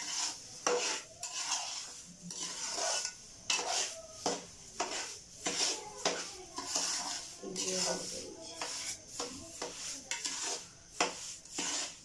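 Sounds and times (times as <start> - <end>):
metal spoon scraping in a pot: 0.0 - 12.0.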